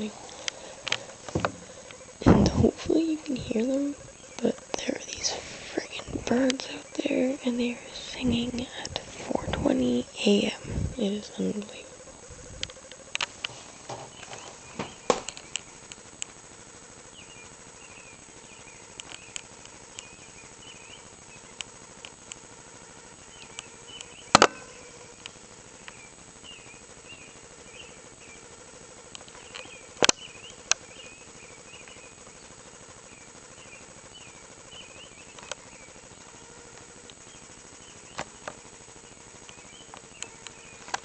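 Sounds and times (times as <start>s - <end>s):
faint birds chirping: 0.0s - 41.0s.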